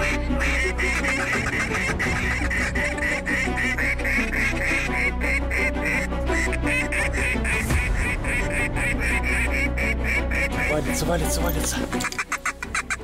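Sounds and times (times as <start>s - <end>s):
duck calls quacking: 0.0s - 13.0s.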